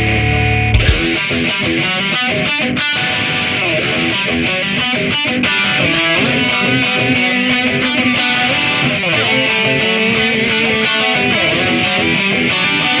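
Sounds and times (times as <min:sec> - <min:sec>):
band playing with electric guitar: 0:00.0 - 0:13.0.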